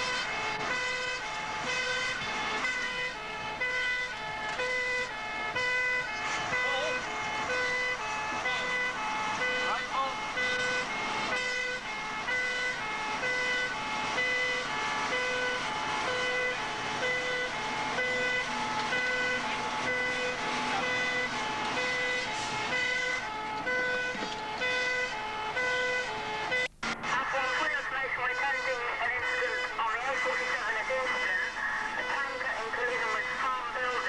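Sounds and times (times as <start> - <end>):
two-tone siren: 0.0 - 34.0.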